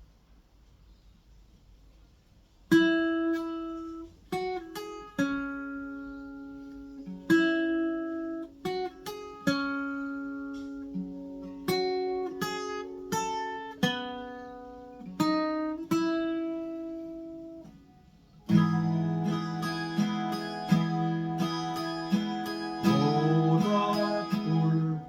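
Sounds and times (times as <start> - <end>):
acoustic guitar strumming chords: 2.7 - 25.0.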